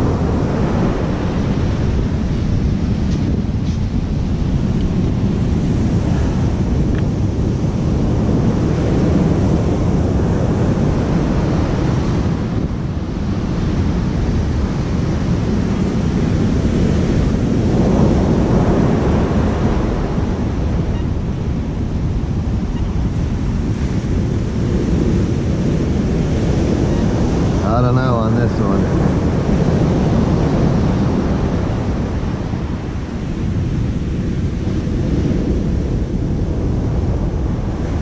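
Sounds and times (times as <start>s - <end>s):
heavy surf: 0.0s - 38.0s
wind buffeting microphone: 0.0s - 38.0s.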